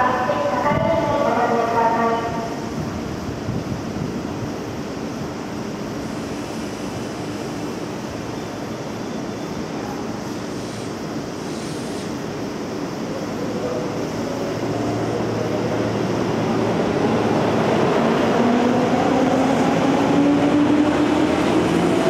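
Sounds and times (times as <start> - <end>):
electric train wheels and motors: 3.0 - 22.0.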